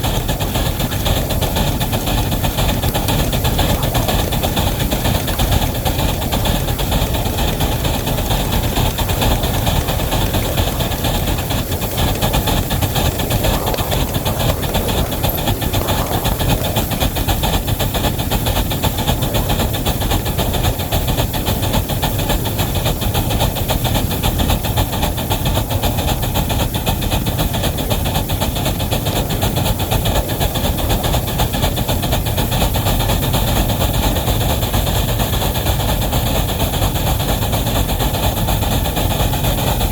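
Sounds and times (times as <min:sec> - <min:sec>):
steam hissing: 0:00.0 - 0:39.8
locomotive low rumble: 0:00.0 - 0:39.9.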